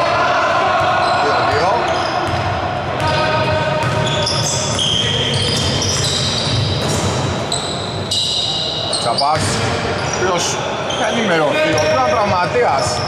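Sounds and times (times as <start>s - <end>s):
shoes squeaking on floor: 1.0s - 2.4s, 3.0s - 13.0s.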